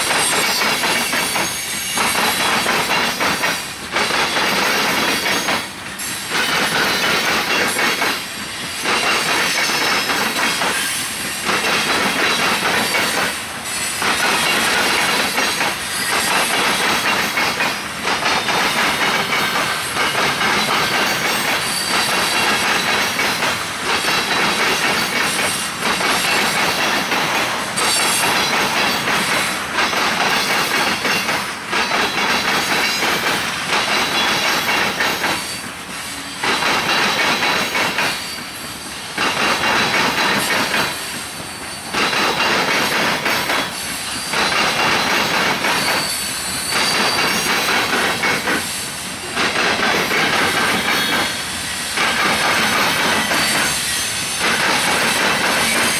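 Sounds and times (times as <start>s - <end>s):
train wheels clattering on rails: 0.0s - 55.9s.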